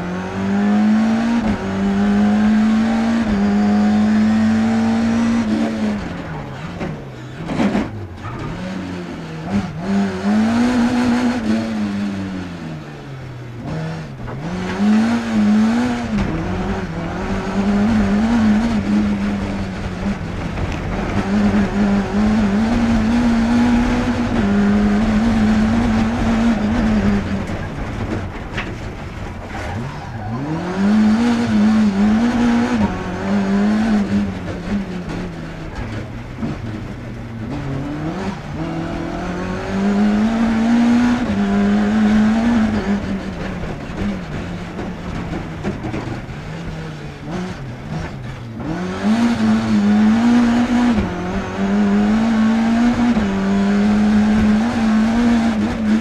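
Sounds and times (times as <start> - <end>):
rally car engine revving: 0.0 - 56.0
road and tyre noise: 0.0 - 56.0.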